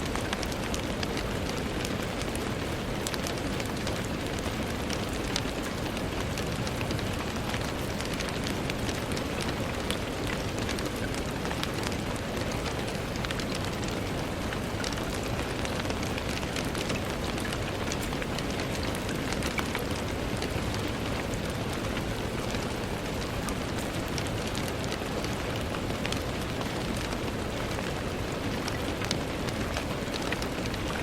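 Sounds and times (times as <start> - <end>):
rain on a window pane: 0.0 - 31.0.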